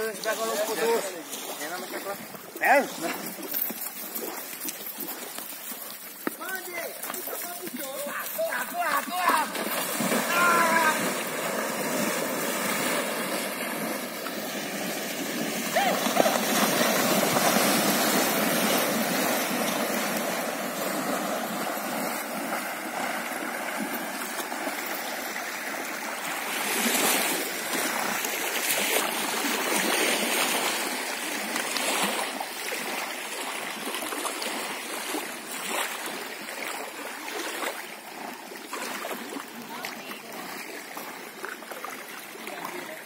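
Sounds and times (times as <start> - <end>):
river water rushing: 0.0 - 43.0
water splashing: 0.0 - 43.0.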